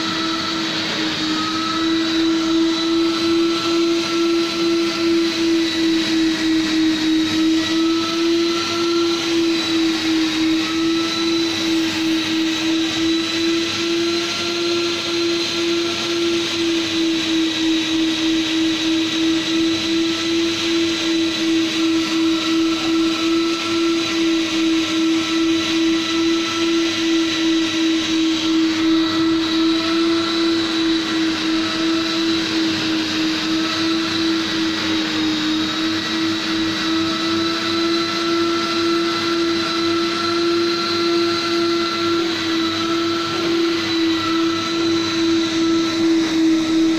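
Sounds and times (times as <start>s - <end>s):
vacuum hose sucking carpet: 0.0s - 46.9s
vacuum motor running: 0.0s - 46.9s.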